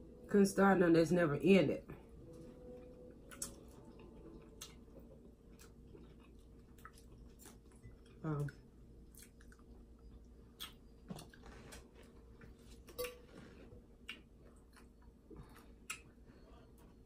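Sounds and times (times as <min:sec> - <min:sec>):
soft chewing: 0:02.0 - 0:17.0.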